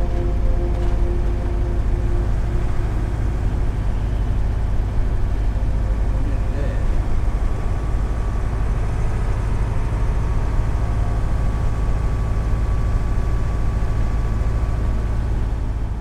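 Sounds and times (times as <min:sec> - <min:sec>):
road noise: 0:00.0 - 0:16.0
truck diesel engine rumbling: 0:00.0 - 0:16.0.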